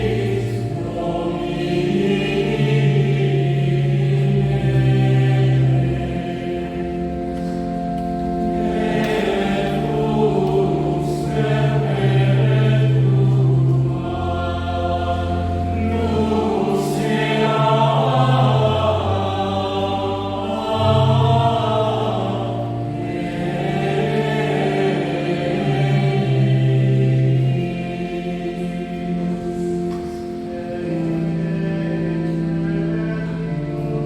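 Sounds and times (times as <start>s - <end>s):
choir singing slow chant: 0.0s - 34.0s.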